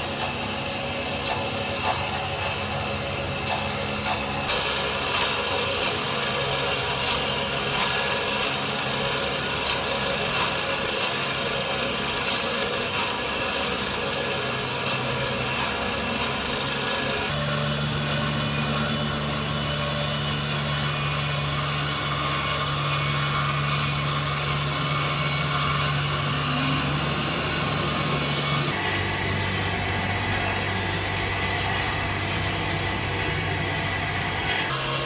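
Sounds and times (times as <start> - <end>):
machine humming and whining: 0.0 - 35.0.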